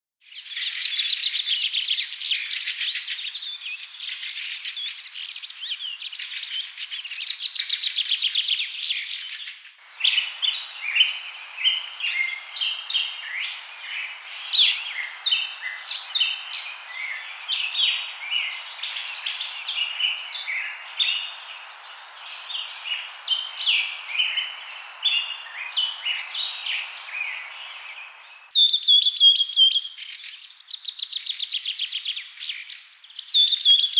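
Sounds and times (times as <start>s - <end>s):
background hiss: 0.3s - 33.9s
songbirds chirping: 0.3s - 33.9s.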